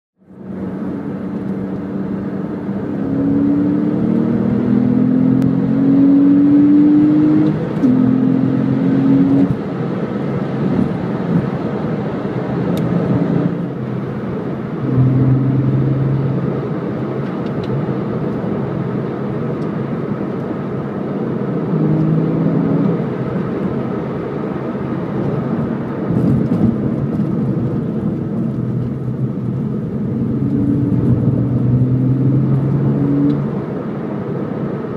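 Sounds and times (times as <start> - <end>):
tyre and road noise: 0.2 - 34.9
car engine revving: 0.3 - 34.9.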